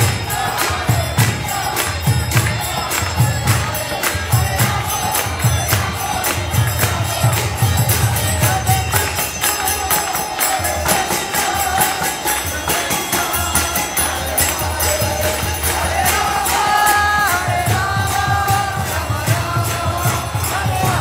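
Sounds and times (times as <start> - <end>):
group chanting: 0.0 - 21.0
hand cymbals: 0.0 - 21.0.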